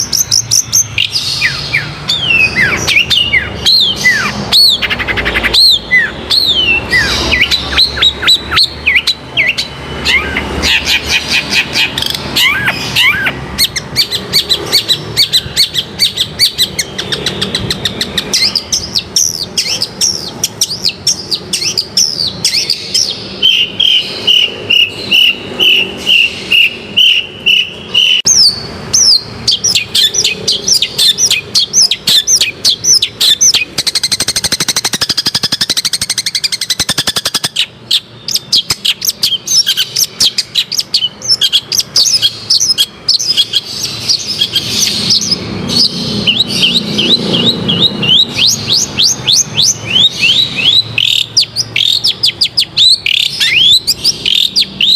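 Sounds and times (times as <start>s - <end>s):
shrike singing: 0.0s - 54.9s.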